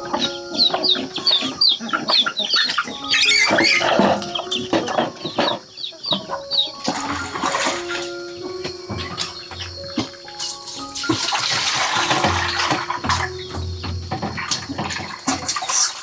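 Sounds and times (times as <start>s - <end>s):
high falling peeps: 0.0s - 14.7s
chickens clucking: 0.0s - 16.0s
soft background music: 0.0s - 16.0s.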